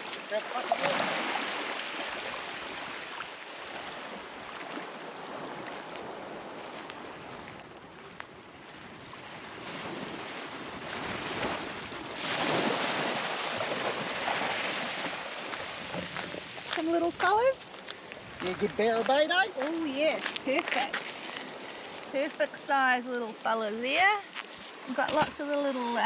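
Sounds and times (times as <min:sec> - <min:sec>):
small waves washing onto beach: 0:00.0 - 0:26.0.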